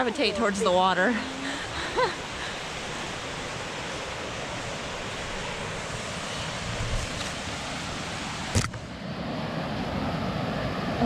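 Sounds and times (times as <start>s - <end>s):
waterfall and creek rushing: 0.0s - 11.0s.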